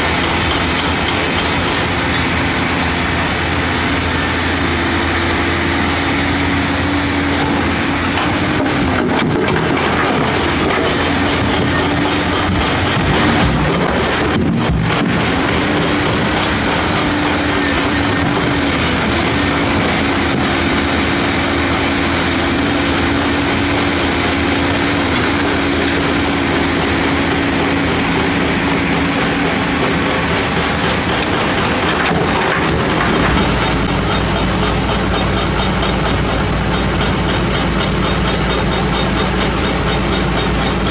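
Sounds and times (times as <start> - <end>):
excavator diesel engine under load: 0.0 - 40.9.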